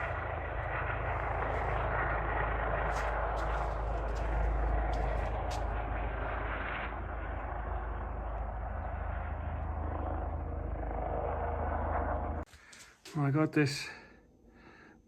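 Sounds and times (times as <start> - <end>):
helicopter rotor drone: 0.0 - 12.5.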